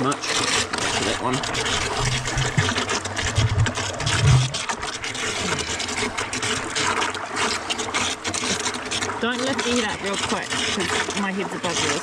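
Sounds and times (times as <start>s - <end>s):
water gushing into trough: 0.0s - 12.0s.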